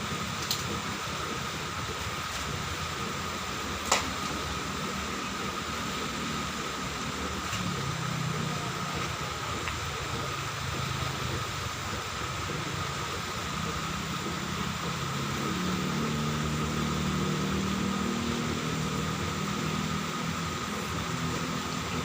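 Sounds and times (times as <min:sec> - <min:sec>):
mechanical drone: 0:00.0 - 0:22.0.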